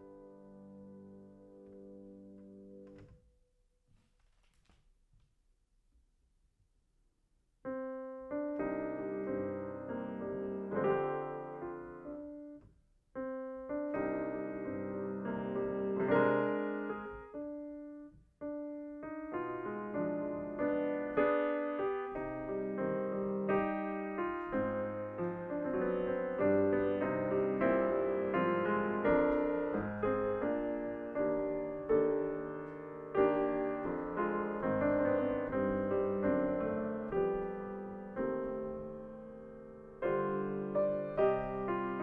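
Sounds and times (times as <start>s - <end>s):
solo grand piano classical piece: 0.0s - 3.3s, 7.6s - 42.0s.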